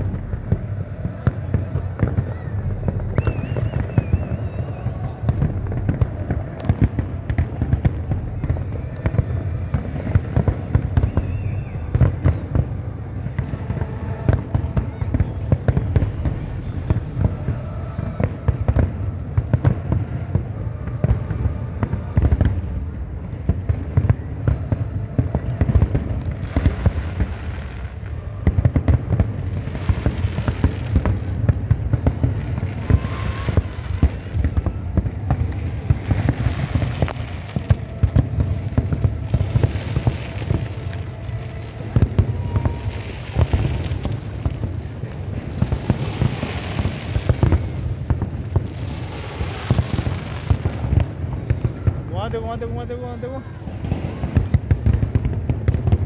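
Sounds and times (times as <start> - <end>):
fireworks bangs and booms: 0.0 - 56.0
fireworks crackle: 0.0 - 56.0.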